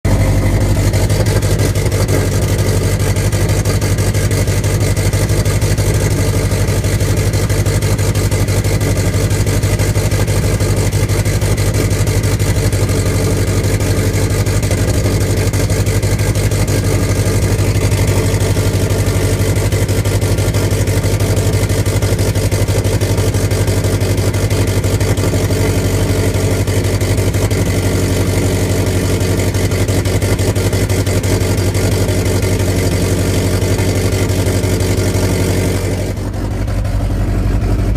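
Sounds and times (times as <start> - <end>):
car engine idling roughly: 0.0 - 37.9.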